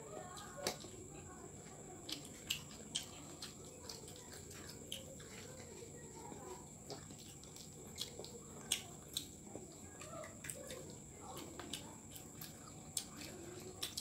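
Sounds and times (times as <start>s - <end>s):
chewing and lip smacks: 0.2s - 14.0s.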